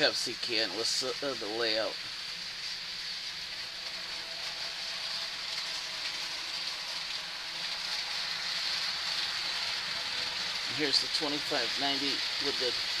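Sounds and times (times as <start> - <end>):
faint steady whine: 0.0 - 13.0
model train running on track: 0.0 - 13.0.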